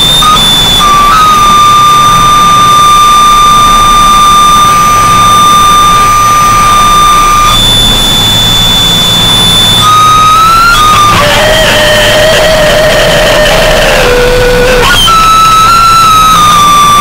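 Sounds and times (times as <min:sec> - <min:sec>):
dense distorted noise: 0:00.0 - 0:17.0
high feedback whine: 0:00.0 - 0:17.0.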